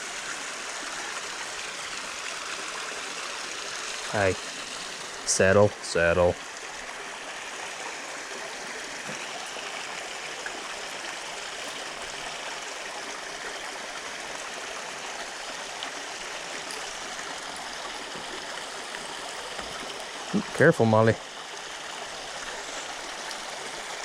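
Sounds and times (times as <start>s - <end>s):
creek water running over rocks: 0.0s - 24.0s.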